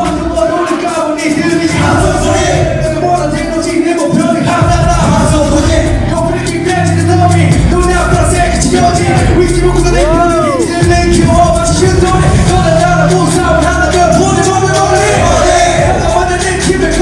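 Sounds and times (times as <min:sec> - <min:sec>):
bass-heavy hip-hop beat: 0:00.0 - 0:17.0
people rapping: 0:00.0 - 0:17.0.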